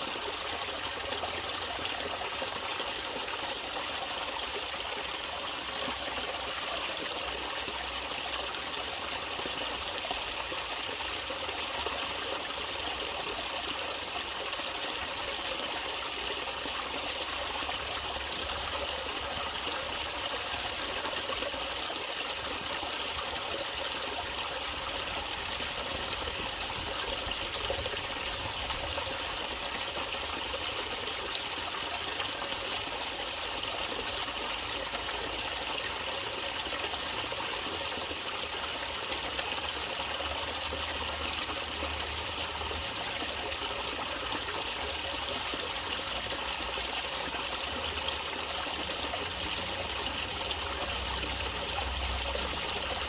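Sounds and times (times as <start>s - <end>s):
stream water trickling: 0.0s - 53.0s.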